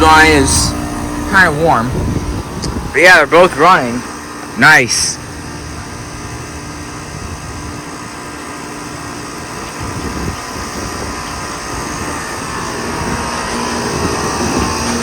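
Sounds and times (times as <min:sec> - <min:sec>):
compressor hum: 0:00.0 - 0:15.0
condenser fans whooshing: 0:00.0 - 0:15.0.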